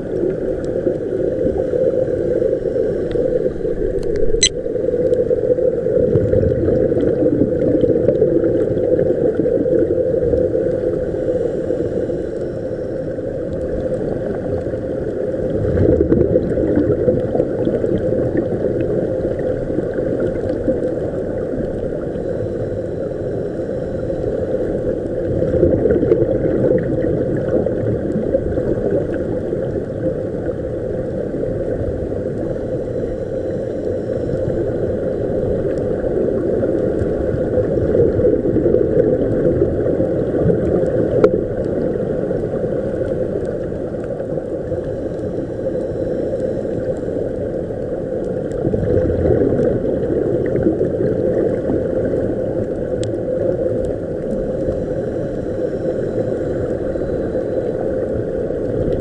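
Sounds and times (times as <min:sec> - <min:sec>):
gurgling air bubbles: 0:00.0 - 0:59.0
low underwater rumble: 0:00.0 - 0:59.0.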